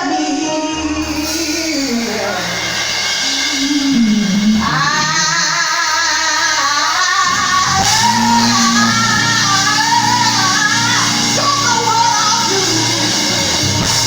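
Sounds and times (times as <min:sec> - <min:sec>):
gospel singing with held notes: 0:00.0 - 0:14.0
instrumental accompaniment: 0:00.8 - 0:14.0.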